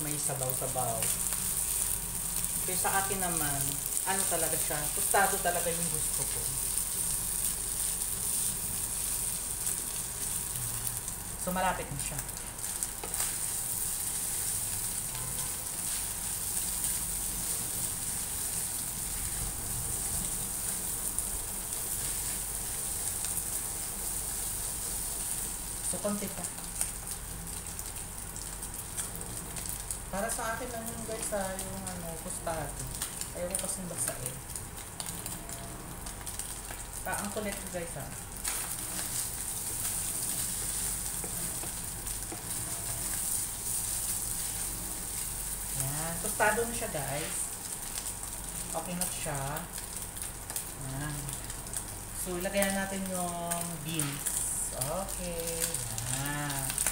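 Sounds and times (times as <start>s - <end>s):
meat sizzling in a pan: 0.0s - 56.9s.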